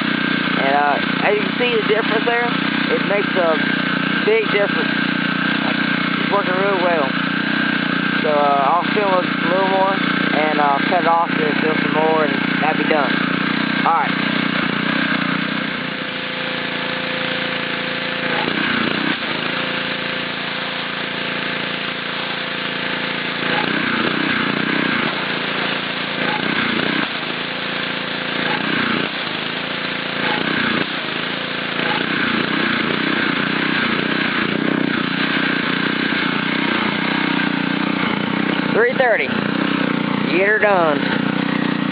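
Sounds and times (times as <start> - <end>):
pressure washer engine hum: 0.0 - 41.9.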